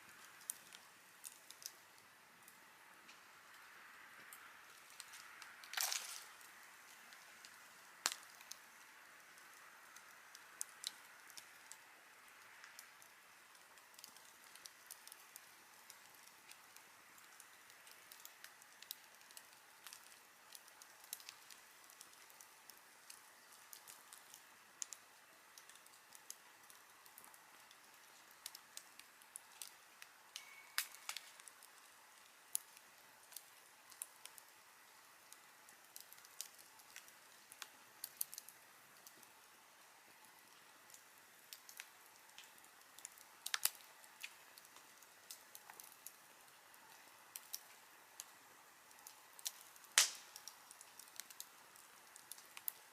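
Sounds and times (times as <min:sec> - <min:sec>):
campfire crackling and popping: 0:00.0 - 0:52.9
fire hiss: 0:00.0 - 0:52.9.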